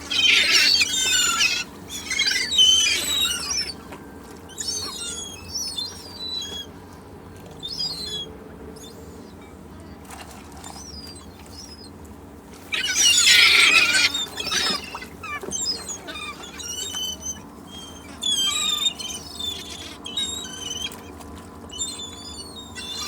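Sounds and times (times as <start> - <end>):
seagulls calling: 0.0 - 10.0, 10.6 - 23.0.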